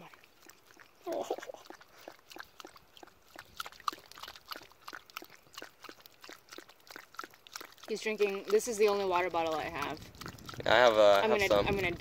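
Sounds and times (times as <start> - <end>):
dog lapping water: 0.0 - 12.0.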